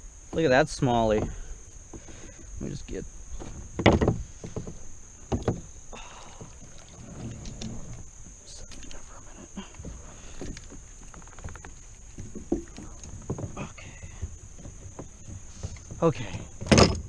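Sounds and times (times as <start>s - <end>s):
knocks and rustles: 0.3s - 17.0s
water sloshing and splashing: 3.3s - 17.0s.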